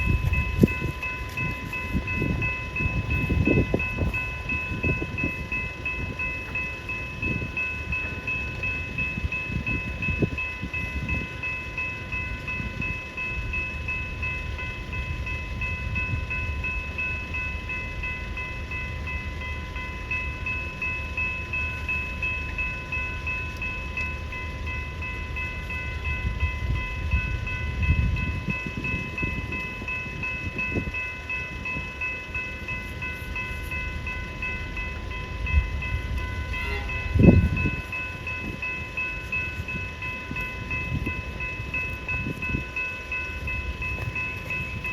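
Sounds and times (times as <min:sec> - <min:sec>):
level crossing warning bells: 0:00.0 - 0:44.9
train rumbling past: 0:00.0 - 0:44.9.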